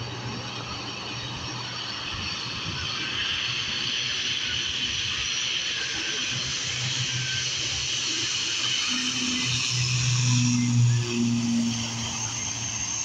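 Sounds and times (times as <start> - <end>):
turboprop engines at takeoff: 0.0 - 13.0.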